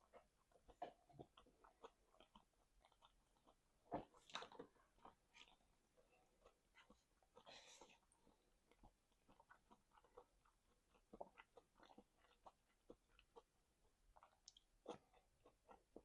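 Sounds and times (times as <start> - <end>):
mouth chewing clicks and smacks: 0.0 - 16.0.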